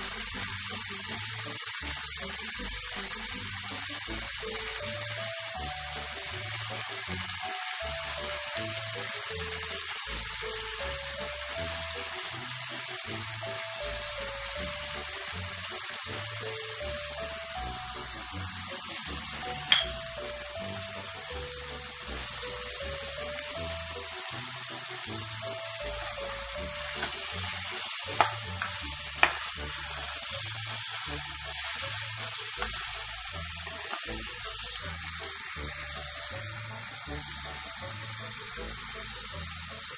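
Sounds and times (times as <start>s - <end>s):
background music with bass line: 0.0s - 39.9s
food sizzling in hot oil: 0.0s - 39.9s.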